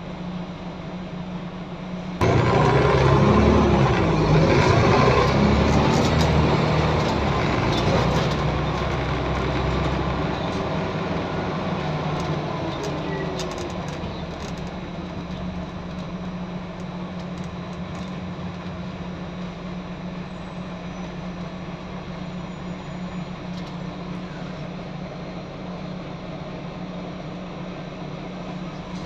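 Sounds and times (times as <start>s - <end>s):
bus diesel engine idling: 0.0s - 29.0s.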